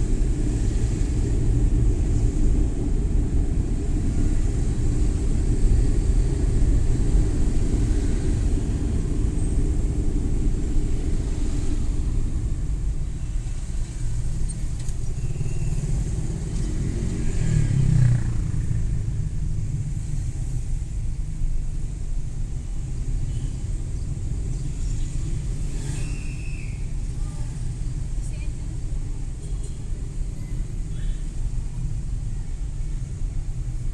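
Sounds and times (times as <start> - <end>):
van engine and road rumble: 0.0 - 33.9.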